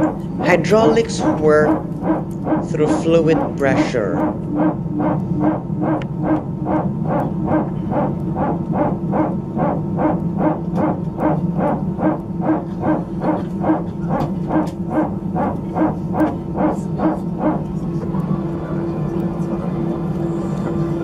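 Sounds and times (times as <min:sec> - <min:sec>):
rhythmic dog-like hydraulic bark: 0:00.0 - 0:18.0
steady low hum: 0:00.0 - 0:21.0.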